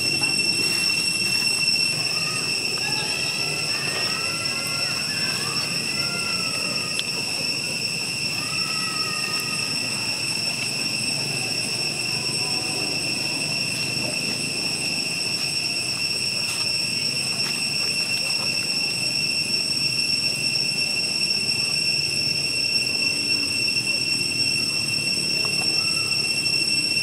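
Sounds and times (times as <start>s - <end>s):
cicadas droning: 0.0s - 27.0s.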